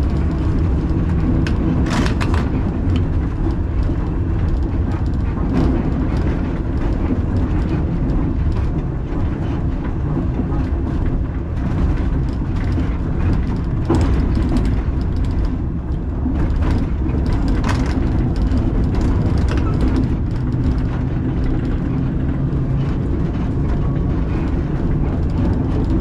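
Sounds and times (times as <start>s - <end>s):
tram wheels and motors rumbling: 0.0s - 26.0s.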